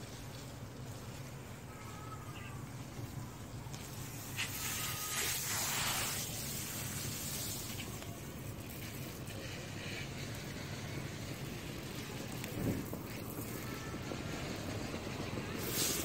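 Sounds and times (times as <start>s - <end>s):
hose spray hissing on grass: 0.0s - 16.0s.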